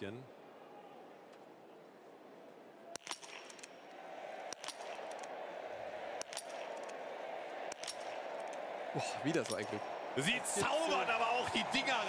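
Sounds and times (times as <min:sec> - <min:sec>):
arena crowd noise: 0:00.0 - 0:12.0.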